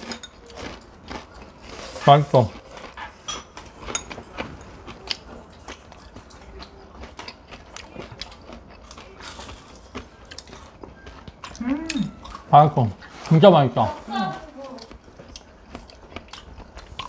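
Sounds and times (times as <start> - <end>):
crisp crunching and chewing: 0.0 - 13.3, 14.6 - 17.0.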